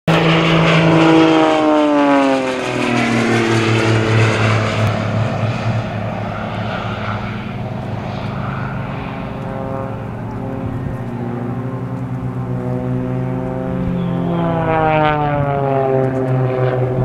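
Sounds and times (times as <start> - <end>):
propeller plane passing overhead: 0.1 - 17.0.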